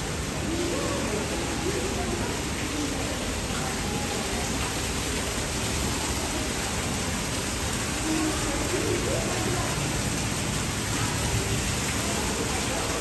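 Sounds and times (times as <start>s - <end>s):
faint voices: 0.0s - 13.0s
water rushing: 0.0s - 13.0s.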